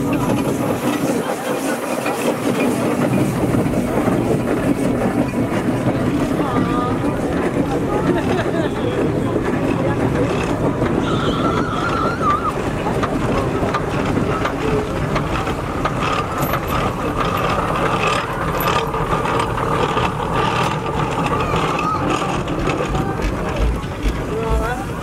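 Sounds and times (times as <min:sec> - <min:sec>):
steam engine running rumble: 0:00.0 - 0:25.0.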